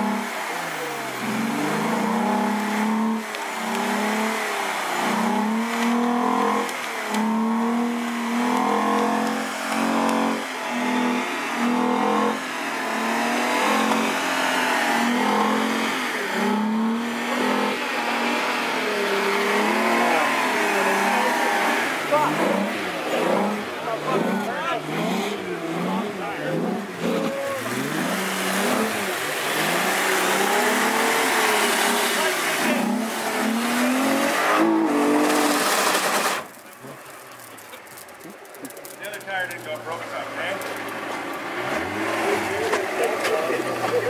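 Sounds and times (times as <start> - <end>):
car engine revving hard: 0.0 - 37.6, 39.2 - 44.0.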